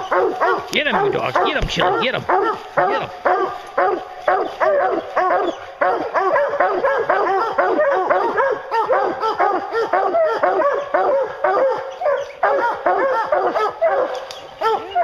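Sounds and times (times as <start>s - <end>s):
hounds barking and baying: 0.0s - 15.0s.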